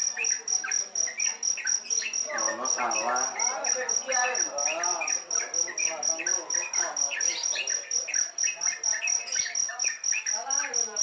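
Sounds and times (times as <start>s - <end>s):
bird chicks chirping: 0.0s - 11.0s
high pulsing insect trill: 0.0s - 11.0s.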